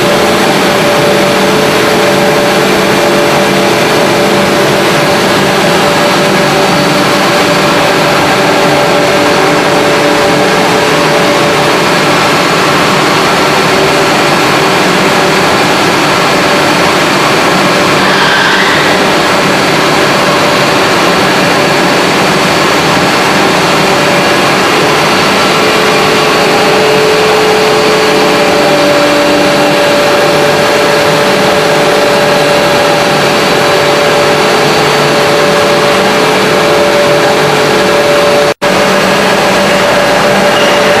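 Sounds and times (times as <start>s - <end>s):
constant hum tones: 0.0s - 41.0s
loud steady machinery noise: 0.0s - 41.0s.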